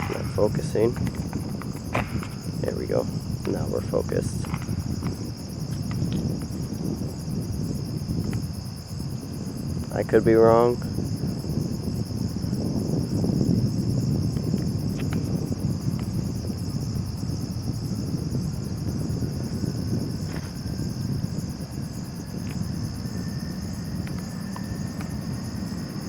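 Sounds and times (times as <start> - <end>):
crickets chirping: 0.0 - 26.0
distant jet engine rumble: 0.0 - 26.0.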